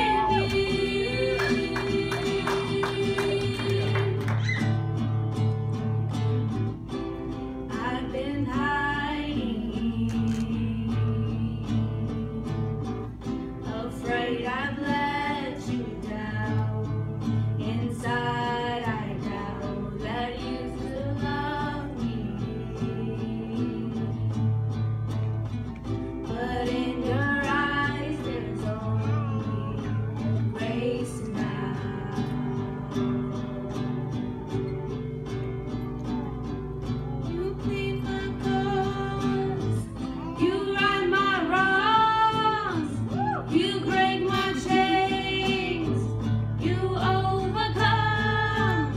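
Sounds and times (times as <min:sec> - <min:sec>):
women singing slow song: 0:00.0 - 0:05.1, 0:07.7 - 0:24.8, 0:26.1 - 0:34.8, 0:37.2 - 0:48.9
acoustic guitar strumming: 0:00.0 - 0:48.9.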